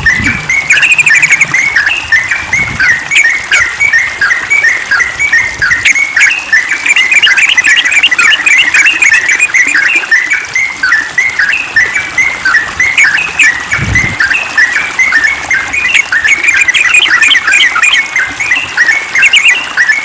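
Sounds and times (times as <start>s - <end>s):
bird chattering song: 0.0s - 20.0s.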